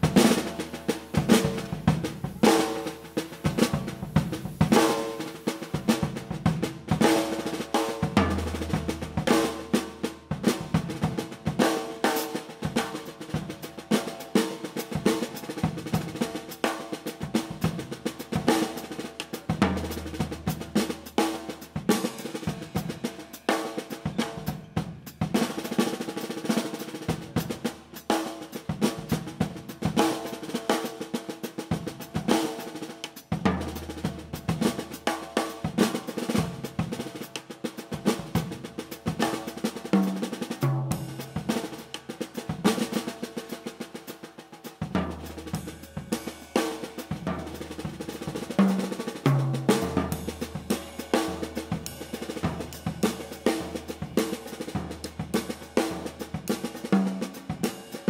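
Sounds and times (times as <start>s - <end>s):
drum kit groove: 0.0s - 58.0s.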